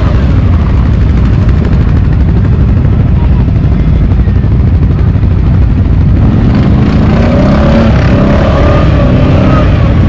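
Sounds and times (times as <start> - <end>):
atv engines rumbling: 0.0 - 10.0
steady wavering whine: 0.0 - 10.0.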